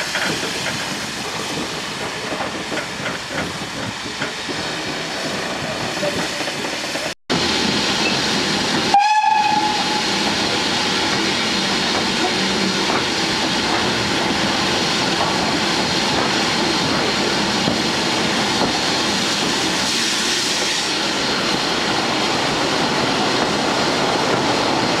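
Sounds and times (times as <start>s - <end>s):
faint wheels on rail: 0.0s - 25.0s
train rushing and rumbling: 0.0s - 25.0s.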